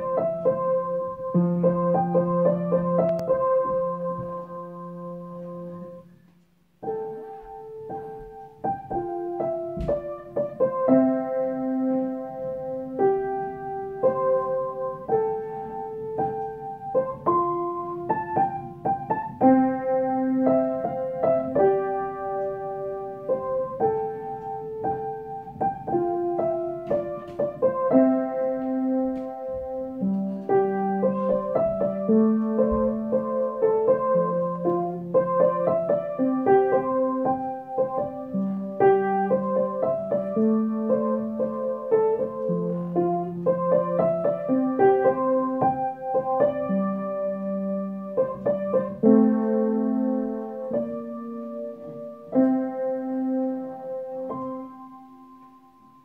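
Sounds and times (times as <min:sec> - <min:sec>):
slow piano melody: 0:00.0 - 0:56.0.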